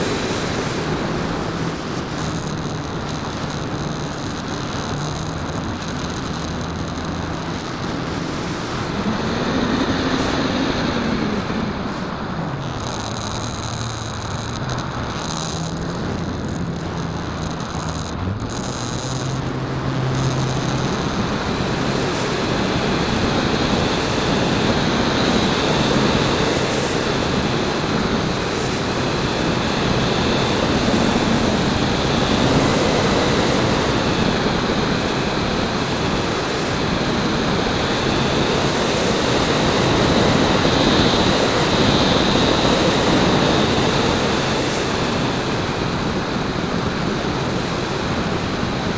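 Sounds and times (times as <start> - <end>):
faint high whine: 0.0 - 48.9
motor and propeller running: 0.0 - 48.9
wind rushing over microphone: 0.0 - 48.9.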